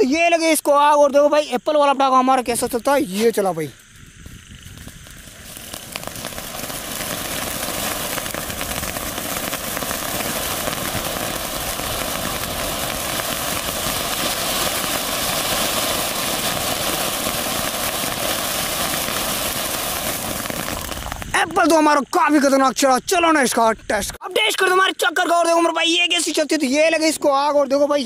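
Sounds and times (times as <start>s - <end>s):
firework fountain hissing and crackling: 0.0s - 28.0s.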